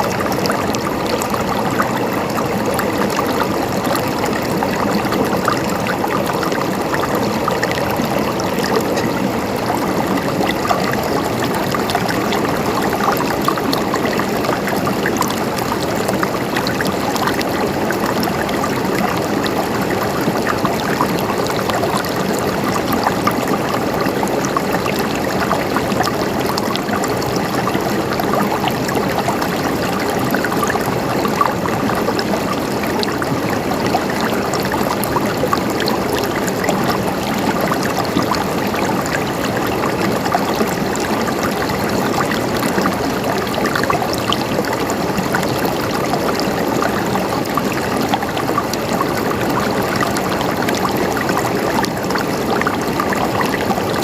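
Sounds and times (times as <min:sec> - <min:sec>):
running water gurgling: 0:00.0 - 0:54.0.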